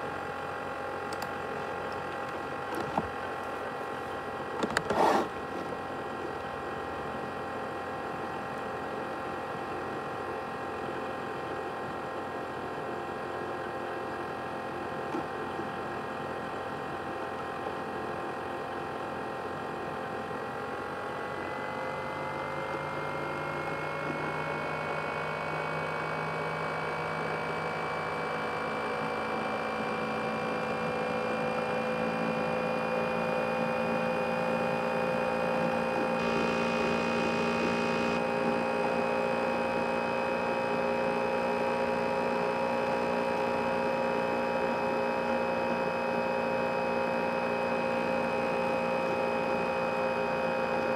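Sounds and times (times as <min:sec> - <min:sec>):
laptop fan whine: 0:00.0 - 0:50.9.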